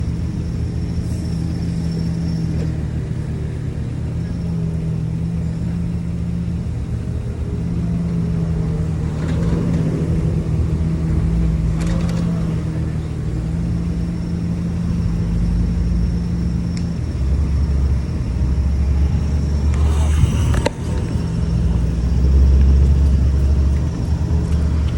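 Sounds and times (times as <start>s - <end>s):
engine running with low drone: 0.0s - 24.9s.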